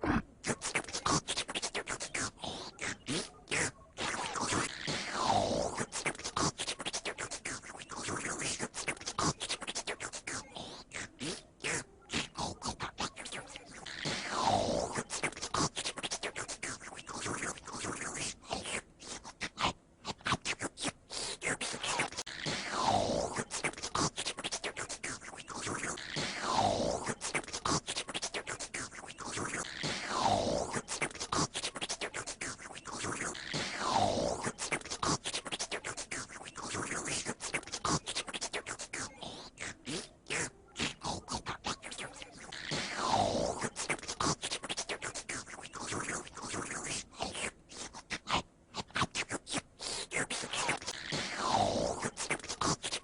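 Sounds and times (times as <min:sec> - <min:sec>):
stuttering scratch sound effects: 0:00.0 - 0:53.0.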